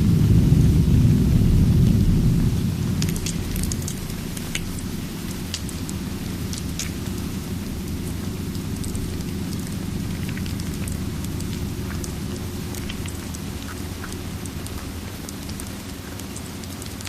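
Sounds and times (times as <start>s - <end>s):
crackling wood fire: 0.0s - 17.0s
deep thunder rumble: 0.0s - 17.0s
steady rain: 0.0s - 17.0s.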